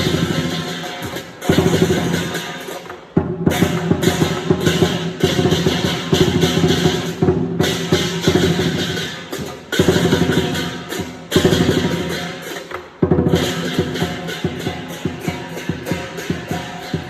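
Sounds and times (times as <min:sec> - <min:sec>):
crashing cymbals: 0:00.0 - 0:17.0
large drum beaten rapidly: 0:00.0 - 0:17.0.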